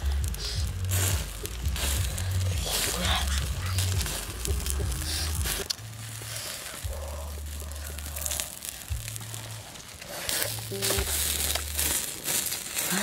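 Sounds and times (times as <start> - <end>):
low hum: 0.0 - 12.2
wood fire crackling: 0.0 - 13.0.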